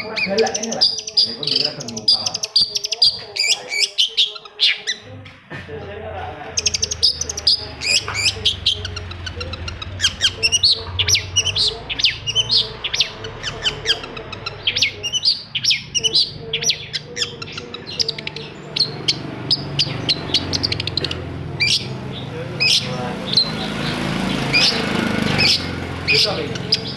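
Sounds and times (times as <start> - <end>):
bird singing chattering notes: 0.0 - 5.2, 6.5 - 26.9.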